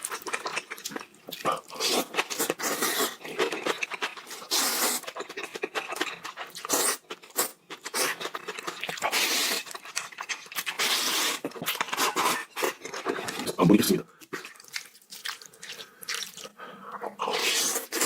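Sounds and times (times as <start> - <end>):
wet chewing with mouth clicks: 0.0 - 18.0.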